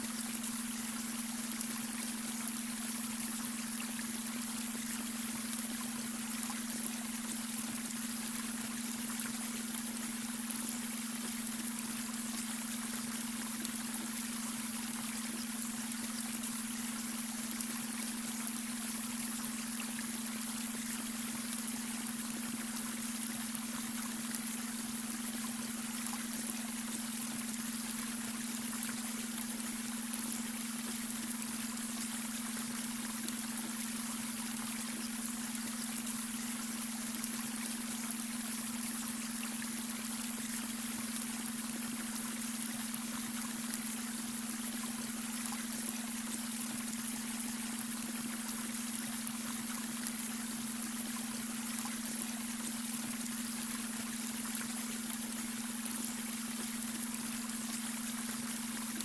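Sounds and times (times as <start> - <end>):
brook water trickling: 0.0 - 59.0.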